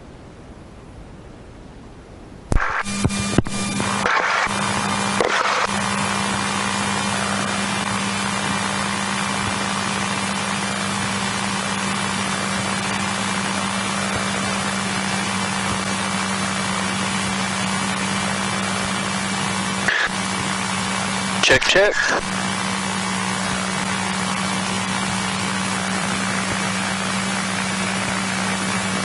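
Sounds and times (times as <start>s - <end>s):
cockpit hiss and low hum: 0.0s - 29.0s.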